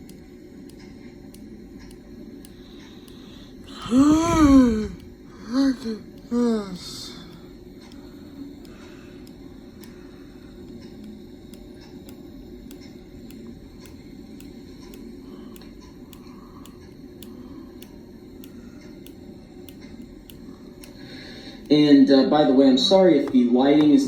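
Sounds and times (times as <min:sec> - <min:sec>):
ceiling fan motor hum: 0:00.0 - 0:24.0
fan ticking: 0:00.0 - 0:24.0.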